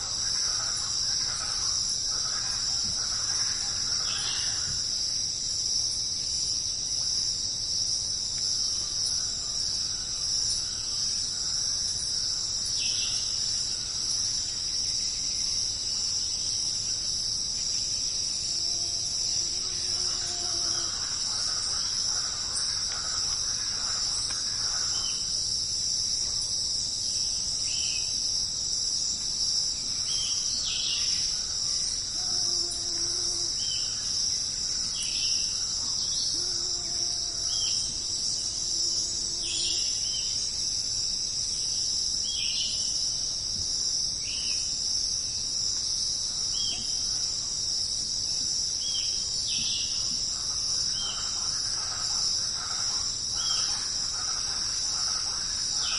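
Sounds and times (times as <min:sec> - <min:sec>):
insect chirps: 0:00.0 - 0:55.9
insects trilling drone: 0:00.0 - 0:55.9.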